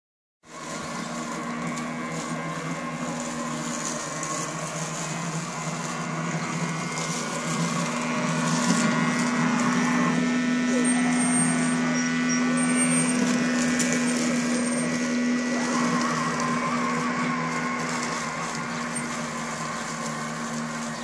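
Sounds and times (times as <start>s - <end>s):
robotic lawnmower motor whir: 0.4s - 21.0s.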